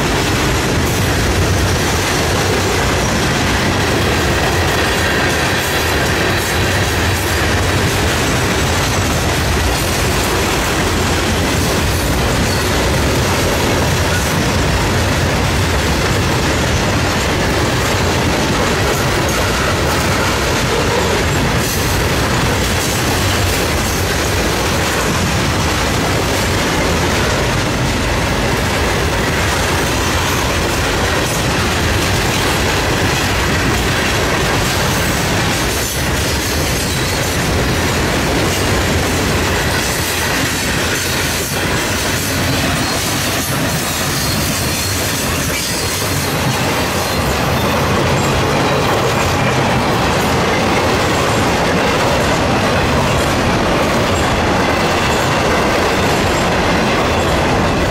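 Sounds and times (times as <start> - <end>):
freight train wheels on rails: 0.0 - 57.9.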